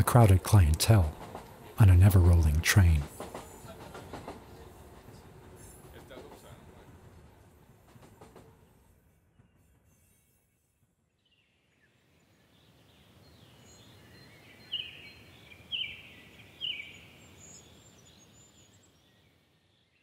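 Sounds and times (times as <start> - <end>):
soft outdoor background hiss: 0.0 - 20.0.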